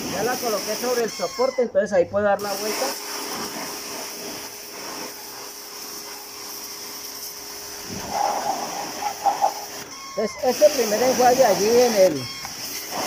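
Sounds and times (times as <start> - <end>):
pressure washer spray hissing: 0.0 - 1.6, 2.4 - 13.0.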